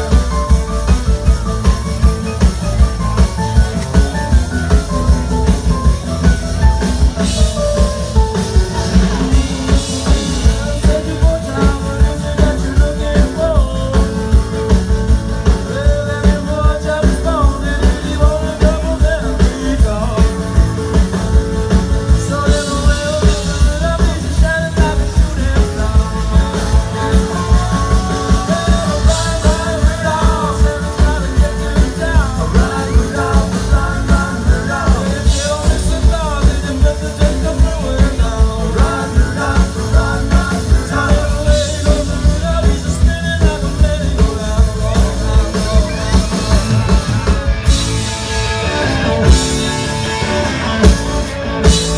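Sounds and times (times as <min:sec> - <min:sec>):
drum beat: 0:00.0 - 0:51.9
guitar: 0:00.0 - 0:51.9
live rock band playing: 0:00.0 - 0:51.9
person singing: 0:07.0 - 0:51.9.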